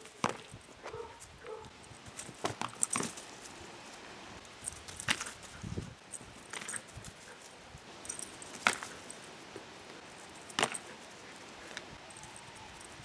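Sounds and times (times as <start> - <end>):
sharp clicks of frisbee: 0.0 - 3.6, 4.4 - 13.0
light jangling: 0.0 - 3.7, 4.4 - 13.0.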